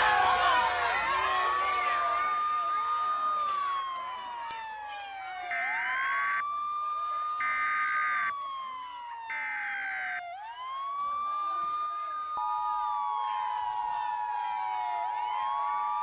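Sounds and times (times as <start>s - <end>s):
emergency siren wailing: 0.0s - 16.0s.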